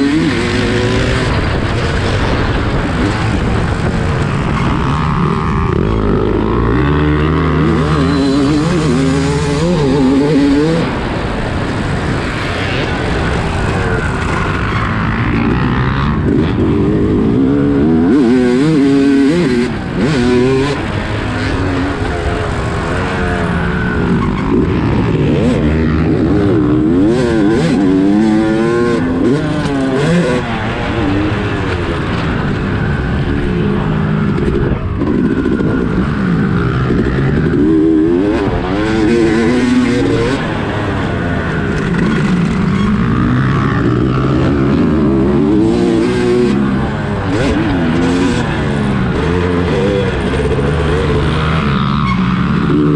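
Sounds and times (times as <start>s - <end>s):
wind noise: 0.0s - 43.1s
motorcycle engine revving: 0.0s - 52.9s.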